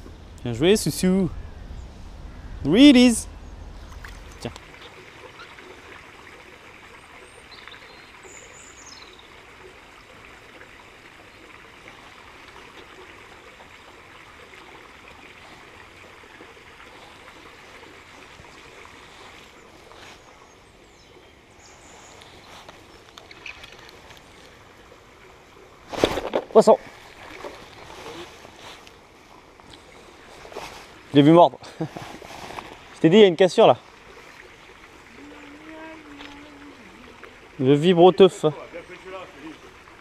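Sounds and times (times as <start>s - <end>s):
running water rushing: 2.7s - 40.0s.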